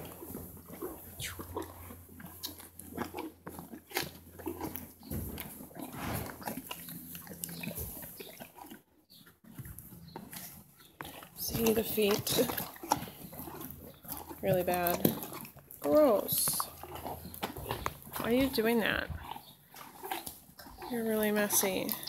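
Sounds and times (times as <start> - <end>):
horse crunching apple: 0.0 - 22.0
horse snuffling breaths: 0.0 - 22.0.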